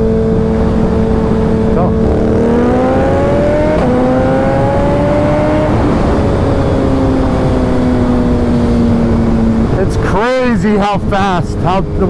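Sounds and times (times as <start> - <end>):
motorcycle engine accelerating: 0.0 - 12.0
wind rush on microphone: 0.0 - 12.0.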